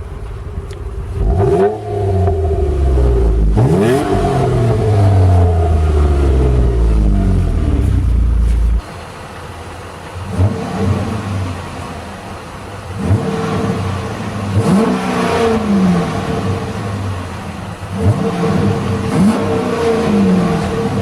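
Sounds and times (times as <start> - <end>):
car engine revving: 0.0 - 9.0, 10.1 - 21.0.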